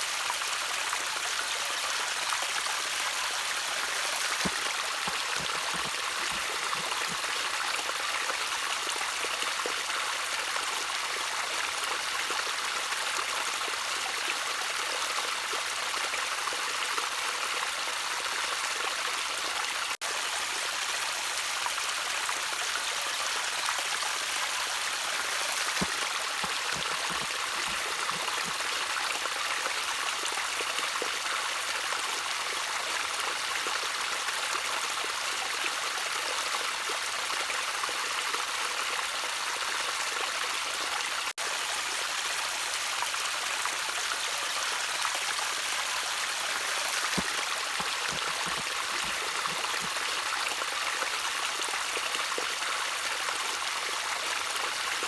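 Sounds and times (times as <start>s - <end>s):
trickling stream water: 0.0s - 55.0s.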